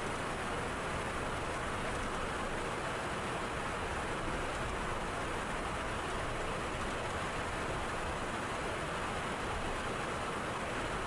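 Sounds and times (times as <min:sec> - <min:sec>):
jet cockpit airflow and engine noise: 0:00.0 - 0:11.0.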